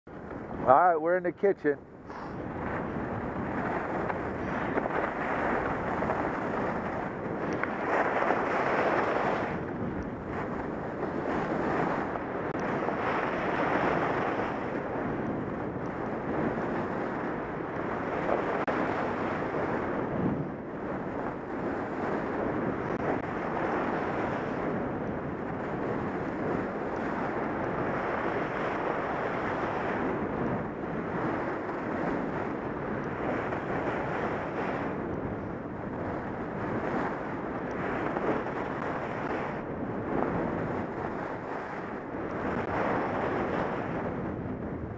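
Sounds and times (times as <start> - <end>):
wind rushing over microphone: 0.1 - 44.9.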